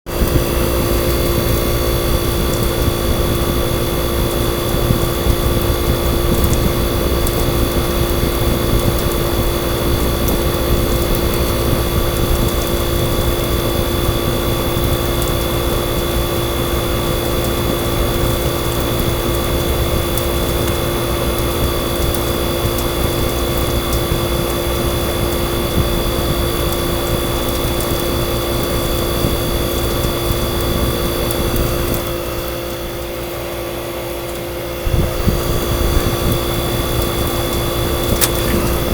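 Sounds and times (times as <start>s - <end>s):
refrigeration compressor humming: 0.1s - 38.9s.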